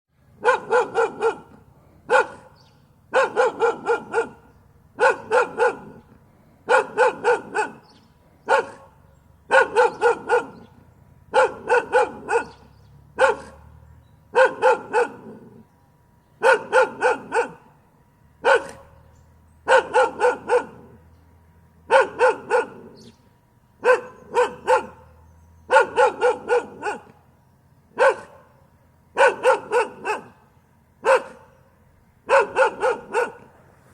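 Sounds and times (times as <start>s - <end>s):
dog barking: 0.4s - 15.6s, 16.4s - 17.8s, 18.4s - 19.0s, 19.6s - 21.0s, 21.9s - 23.1s, 23.8s - 27.2s, 27.9s - 30.4s, 31.0s - 33.6s.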